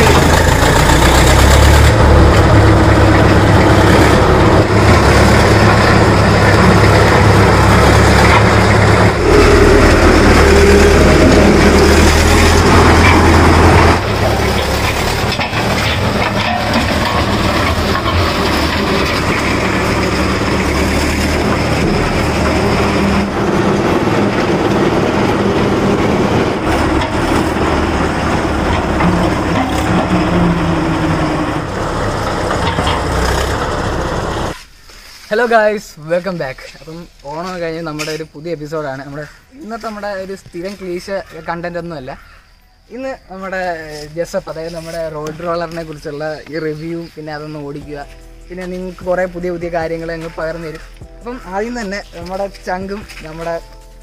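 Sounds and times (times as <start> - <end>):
road roller engine rumbling: 0.0 - 54.0.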